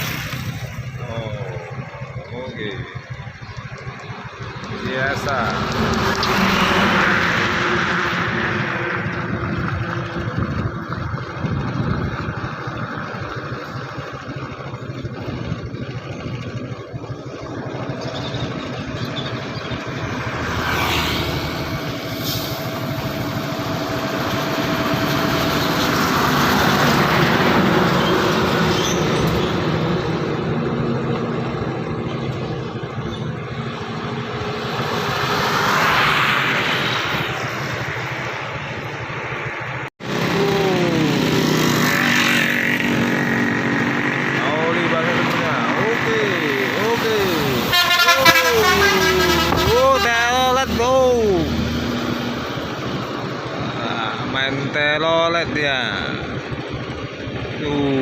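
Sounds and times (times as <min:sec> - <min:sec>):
highway vehicles passing: 0:00.0 - 0:58.0.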